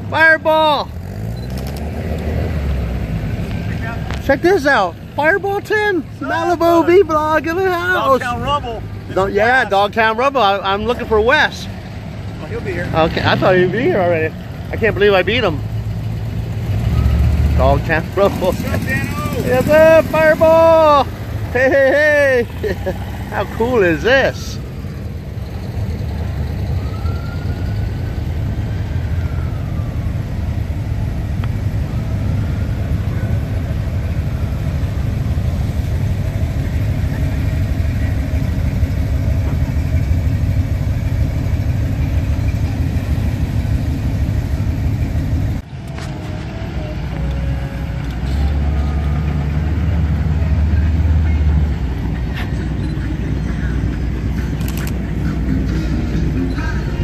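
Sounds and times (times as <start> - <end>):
cars driving slowly past: 0.0 - 57.0
heavy deep engine: 0.0 - 57.0.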